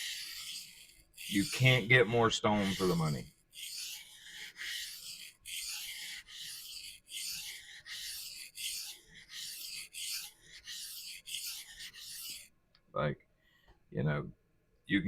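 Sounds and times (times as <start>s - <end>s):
knife scraping on sharpening stone: 0.0s - 12.5s.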